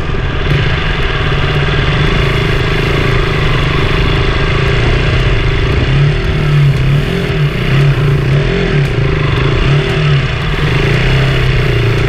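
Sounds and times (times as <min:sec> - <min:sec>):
motorcycle engine running: 0:00.0 - 0:12.0
rough road noise: 0:00.0 - 0:12.0.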